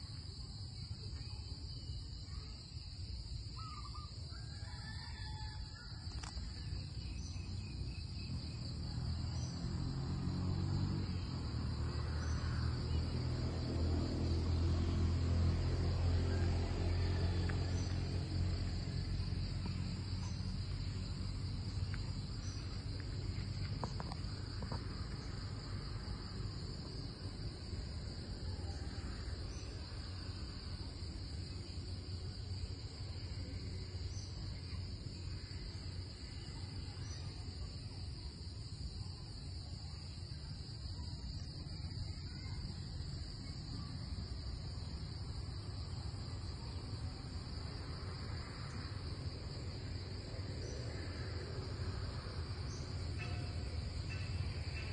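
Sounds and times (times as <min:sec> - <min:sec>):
insect chorus chirring: 0:00.0 - 0:54.9.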